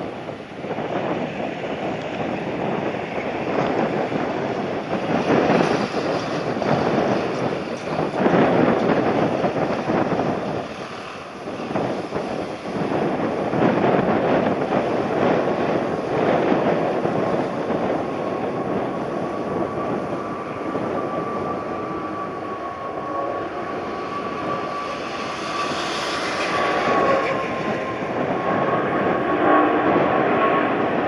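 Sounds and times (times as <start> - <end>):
airliner engines passing low: 0.0 - 31.0.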